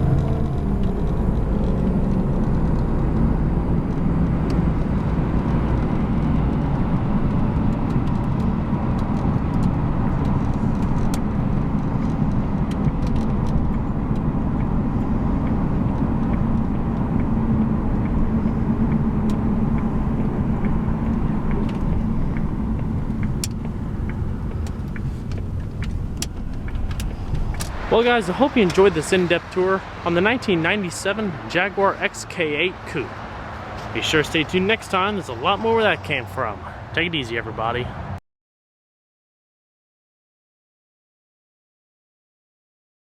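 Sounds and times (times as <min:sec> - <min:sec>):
car engine and road noise: 0:00.0 - 0:38.2.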